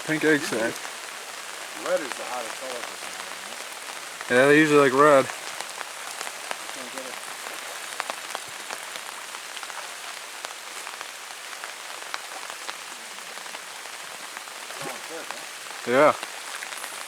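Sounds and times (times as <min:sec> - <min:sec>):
raindrops ticking close by: 0:00.0 - 0:17.0
steady rain hiss: 0:00.0 - 0:17.0.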